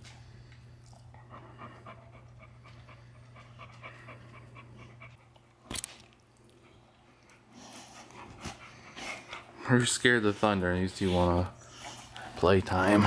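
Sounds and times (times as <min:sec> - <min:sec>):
low steady hum: 0:00.0 - 0:13.0
dog panting: 0:01.0 - 0:05.6, 0:06.6 - 0:13.0.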